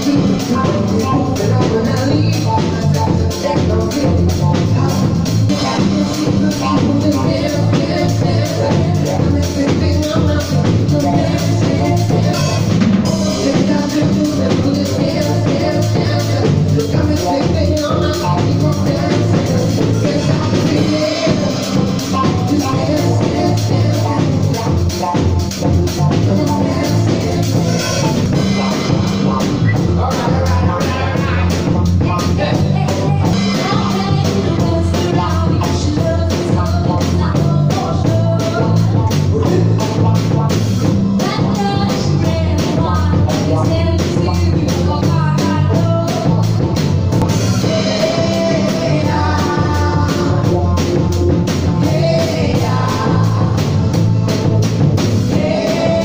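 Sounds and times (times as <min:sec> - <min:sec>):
people singing: 0:00.0 - 0:40.6, 0:41.2 - 0:56.0
live soul-funk band: 0:00.0 - 0:56.0.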